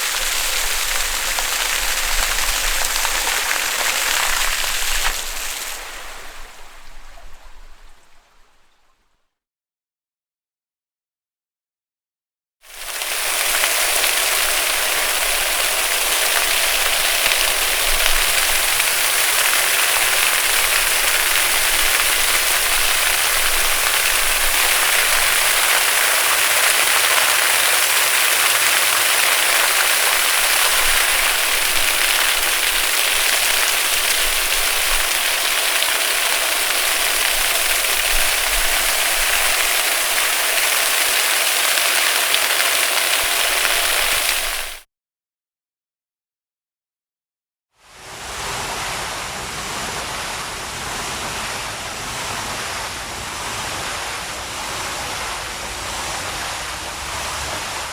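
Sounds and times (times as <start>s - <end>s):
water fountain splashing: 0.0s - 8.9s, 12.6s - 44.8s, 47.8s - 57.9s.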